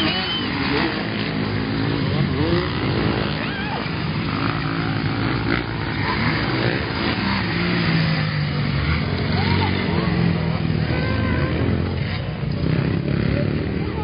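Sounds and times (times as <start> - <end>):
motocross motorcycle engines: 0.0 - 14.0.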